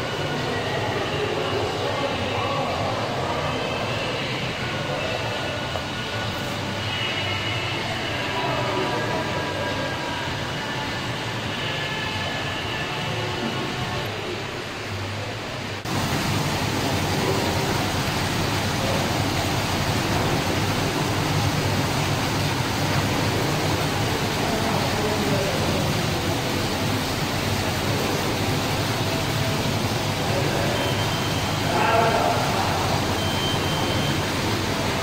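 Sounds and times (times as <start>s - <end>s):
fountain water splashing: 0.0s - 35.0s.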